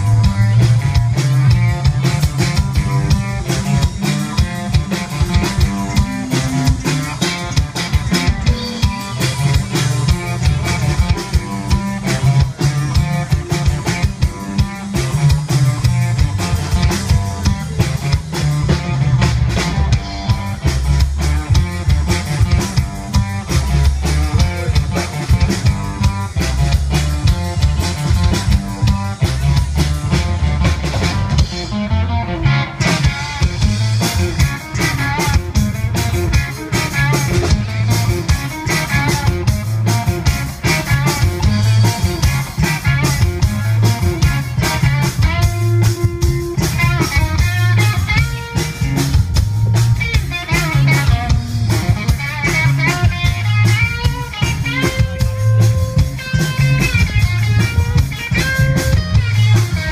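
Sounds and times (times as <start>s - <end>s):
drum kit beat: 0.0s - 59.9s
electric guitars: 0.0s - 59.9s.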